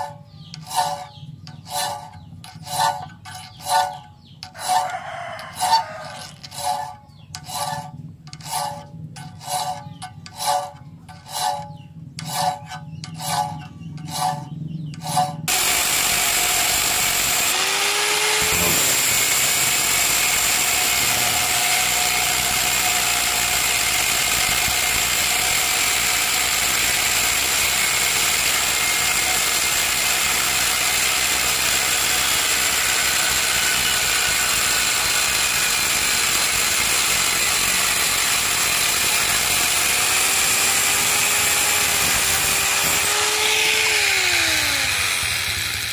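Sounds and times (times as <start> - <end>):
hand file scraping steel: 0.0 - 45.3
angle grinder cutting steel: 0.0 - 45.9.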